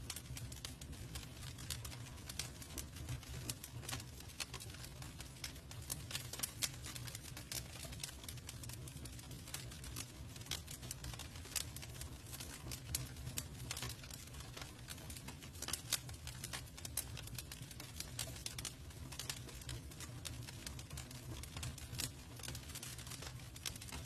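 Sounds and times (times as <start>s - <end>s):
campfire crackling: 0.0s - 24.0s
fire snaps and pops: 0.0s - 24.0s
low rumble of flames: 0.0s - 24.0s.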